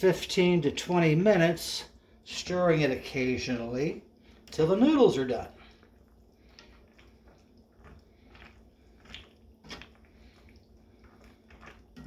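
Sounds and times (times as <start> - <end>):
wet squishes of pasta stirred: 0.0 - 12.0.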